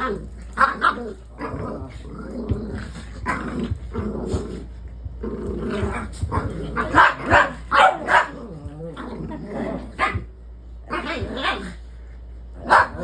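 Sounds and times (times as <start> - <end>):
dogs growling and barking: 0.0 - 13.0.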